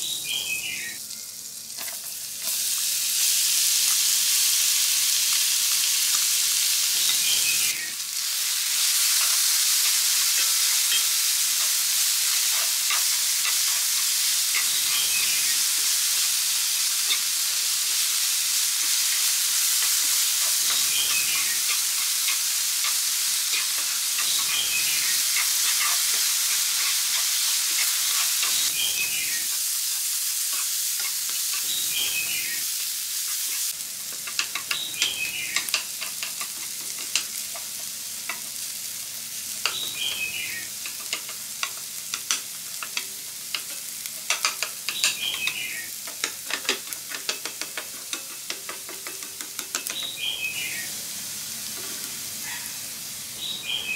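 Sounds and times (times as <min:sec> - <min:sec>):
vegetables sizzling in a frying pan: 0:00.0 - 0:53.9.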